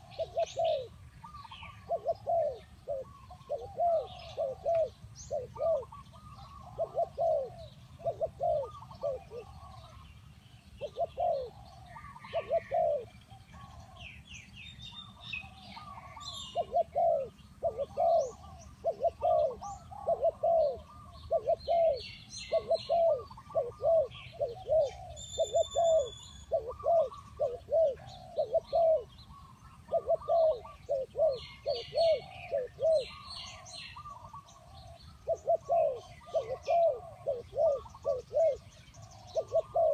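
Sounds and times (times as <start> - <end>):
dove cooing: 0.0 - 14.3, 14.9 - 39.9
small birds chirping: 0.0 - 39.9.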